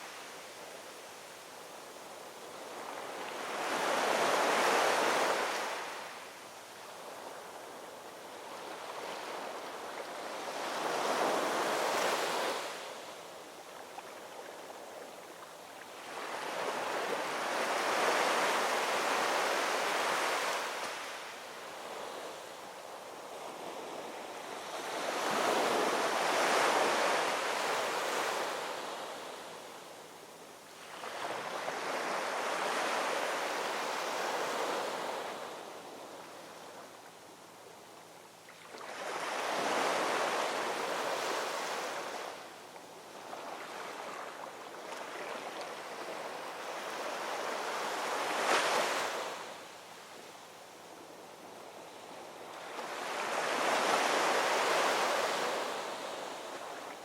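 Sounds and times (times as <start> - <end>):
ocean waves breaking on shore: 2.1 - 6.3, 6.9 - 29.7, 30.7 - 36.8, 38.6 - 49.8, 51.1 - 57.0.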